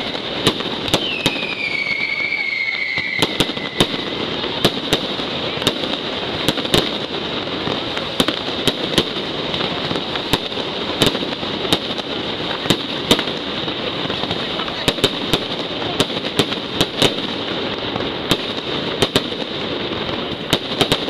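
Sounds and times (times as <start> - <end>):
firecrackers crackling: 0.0 - 21.0
firework bangs: 0.0 - 21.0.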